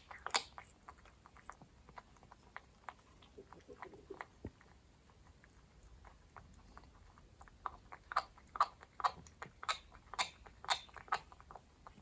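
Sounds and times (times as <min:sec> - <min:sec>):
cat chewing with tooth grinding: 0:00.0 - 0:12.0.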